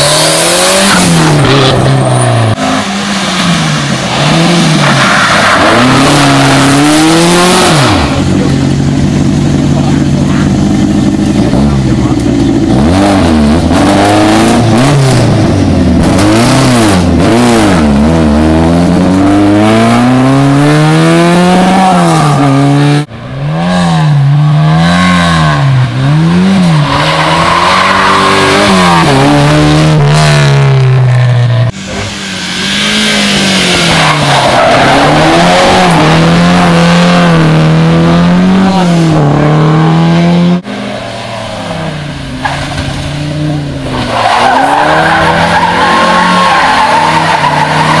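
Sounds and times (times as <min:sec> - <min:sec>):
rally car engines revving hard: 0:00.0 - 0:48.0.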